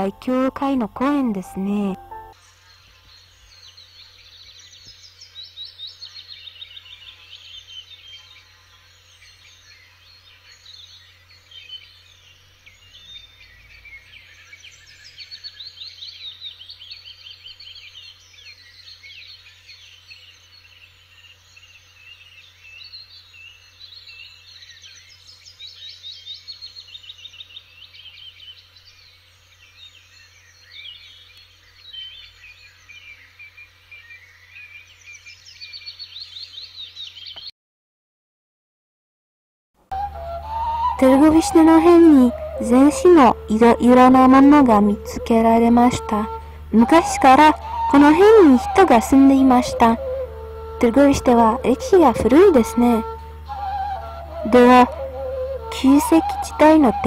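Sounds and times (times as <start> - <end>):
songbirds chirping and trilling: 0.0 - 37.5, 40.0 - 57.0.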